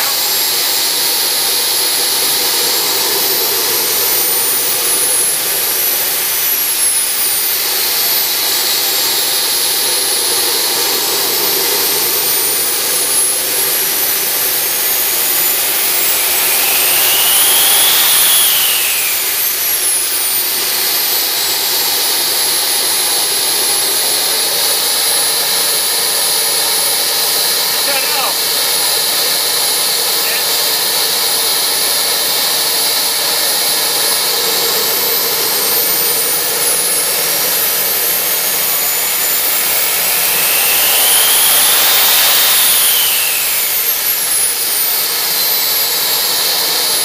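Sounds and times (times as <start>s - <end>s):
jet turbine whine: 0.0s - 47.0s
rushing exhaust: 0.0s - 47.0s.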